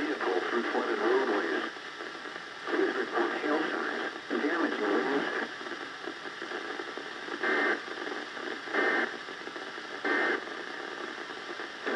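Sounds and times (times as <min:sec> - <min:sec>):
crackly noise surges: 0:00.0 - 0:11.9
radio static hiss: 0:00.0 - 0:11.9.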